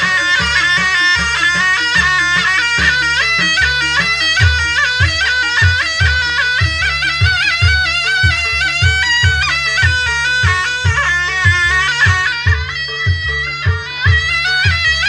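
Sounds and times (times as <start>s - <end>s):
drum beats: 0.0s - 15.0s
shrill shawm melody: 0.0s - 15.0s.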